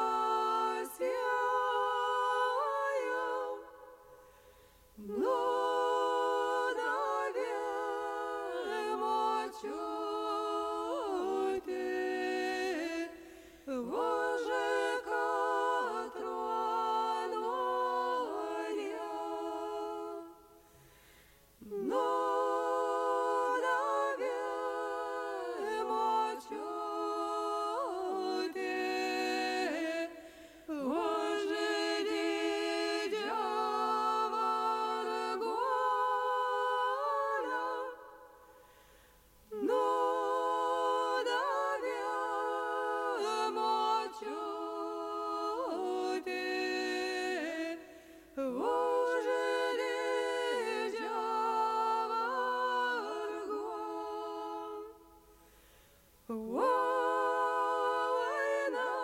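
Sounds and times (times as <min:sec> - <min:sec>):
group singing unaccompanied: 0:00.0 - 0:20.8, 0:21.6 - 0:55.5, 0:56.2 - 0:59.0.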